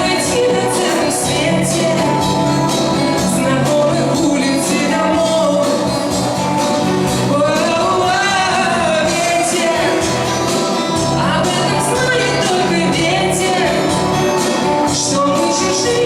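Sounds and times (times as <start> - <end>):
instrumental accompaniment: 0.0 - 16.0
person singing pop song live: 0.0 - 16.0.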